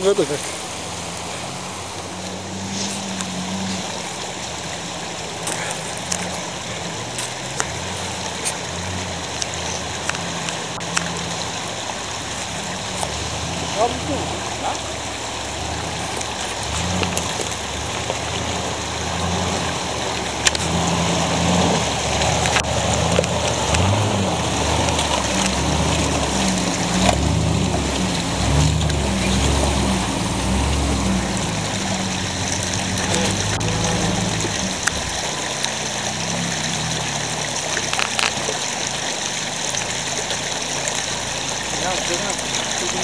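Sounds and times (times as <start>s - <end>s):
shallow running water: 0.0s - 43.0s
vehicle engine crawling: 0.0s - 43.0s.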